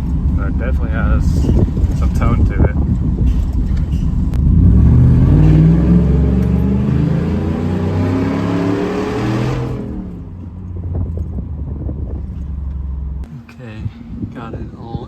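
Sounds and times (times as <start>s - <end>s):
truck engine accelerating: 0.0s - 13.3s.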